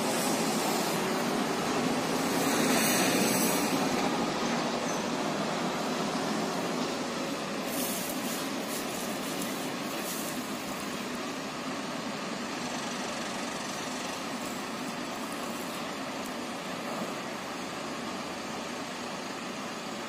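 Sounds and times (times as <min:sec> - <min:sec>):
train rumbling and hissing: 0:00.0 - 0:20.0.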